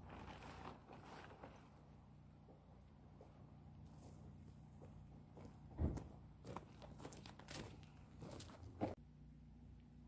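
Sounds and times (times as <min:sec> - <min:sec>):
faint low hum: 0:00.1 - 0:10.0.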